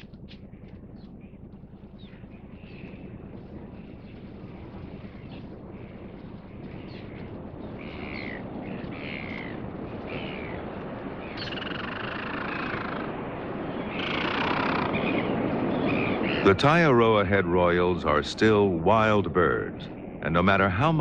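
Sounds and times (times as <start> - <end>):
seabird calls: 0.0 - 21.0
wind rushing: 0.0 - 21.0.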